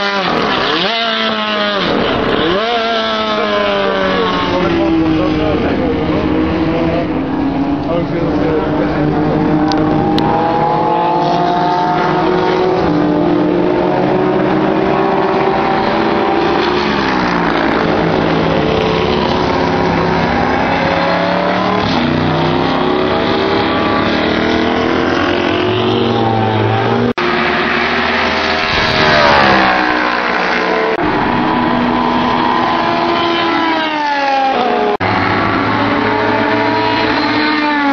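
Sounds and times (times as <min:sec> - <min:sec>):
race car engines passing: 0:00.0 - 0:37.9.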